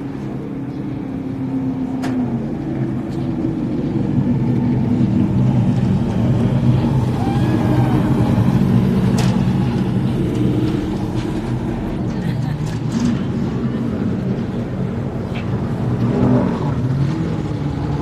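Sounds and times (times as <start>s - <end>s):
race car engine driving past: 1.8s - 18.0s.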